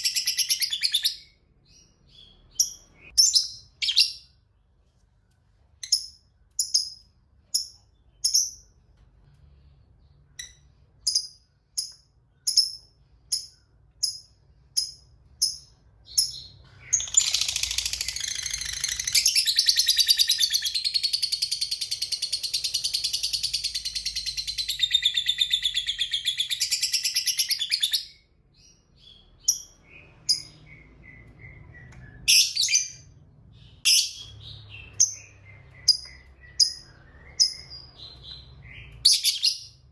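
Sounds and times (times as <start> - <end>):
bird high chirps: 0.0 - 4.6, 5.8 - 8.9, 9.5 - 39.9.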